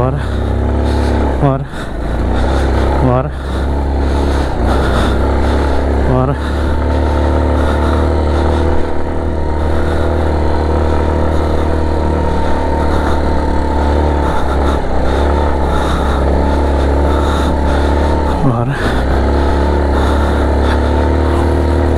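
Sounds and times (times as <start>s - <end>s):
motorcycle engine riding through sand: 0.0s - 21.9s.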